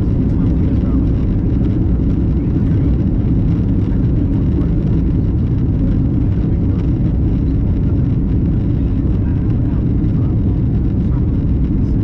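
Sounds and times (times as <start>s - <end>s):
aircraft cabin engine roar: 0.0s - 12.0s.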